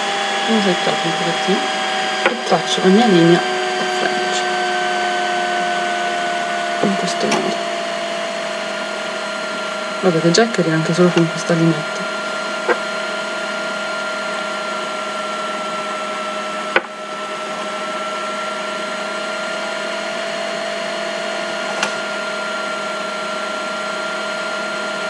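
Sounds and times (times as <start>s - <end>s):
machine hum with constant whine: 0.0s - 25.0s.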